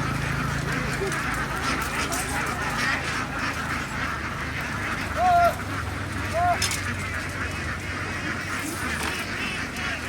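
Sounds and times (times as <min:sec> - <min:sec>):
drawn-out duck call: 0:00.0 - 0:10.0
flock of ducks quacking: 0:00.0 - 0:10.0.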